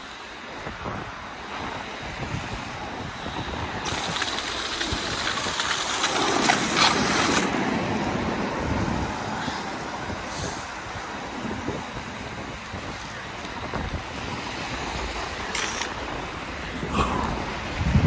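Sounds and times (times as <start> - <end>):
car tyres hissing on wet road: 0.0 - 17.9
skate wheels rolling on wet asphalt: 0.0 - 18.0.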